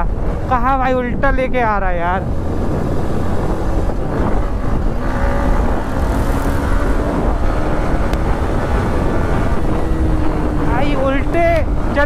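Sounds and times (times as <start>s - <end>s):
wind rumble on microphone: 0.0s - 12.0s
motorcycle engine running: 1.6s - 12.0s.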